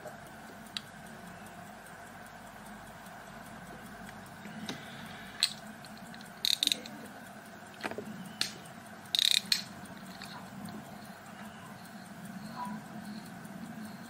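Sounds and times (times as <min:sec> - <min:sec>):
ratchet-like bursts: 0:00.0 - 0:14.0
pocket watch metallic clicks: 0:00.1 - 0:14.0.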